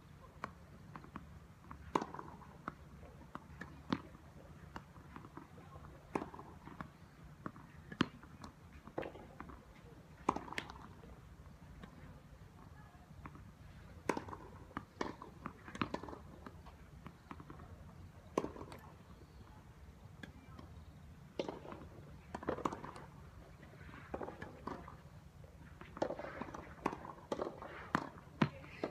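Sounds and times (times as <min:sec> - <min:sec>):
tennis balls struck and bouncing: 0:00.2 - 0:28.9.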